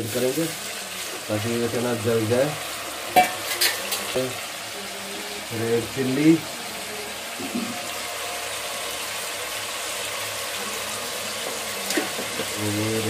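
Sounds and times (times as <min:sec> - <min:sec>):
onion and tomato sizzling in oil: 0:00.0 - 0:13.0.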